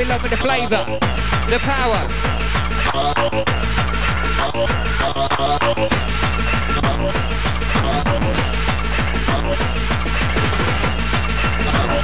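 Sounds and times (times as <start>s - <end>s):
hardcore rave music: 0.0s - 12.0s.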